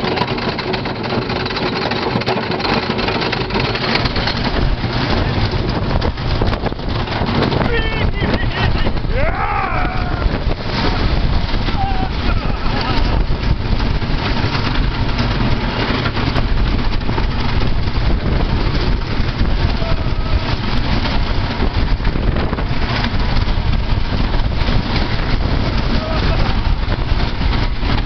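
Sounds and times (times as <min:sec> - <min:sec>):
wind on microphone: 0:00.0 - 0:28.0
wooden roller coaster rumbling: 0:00.0 - 0:28.0.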